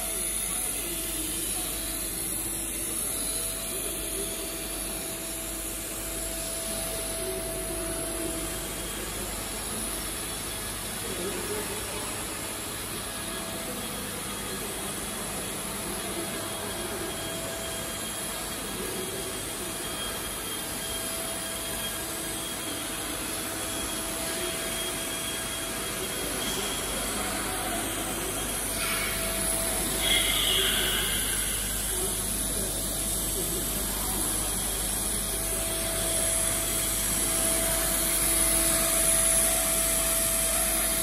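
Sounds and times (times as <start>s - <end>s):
router spindle whine: 0.0s - 41.0s.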